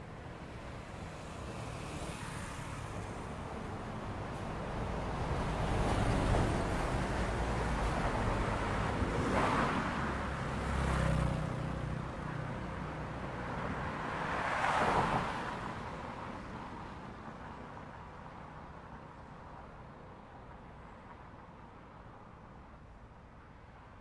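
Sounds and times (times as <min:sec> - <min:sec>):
road traffic rumble: 0:00.0 - 0:24.0
vehicles passing: 0:00.0 - 0:24.0.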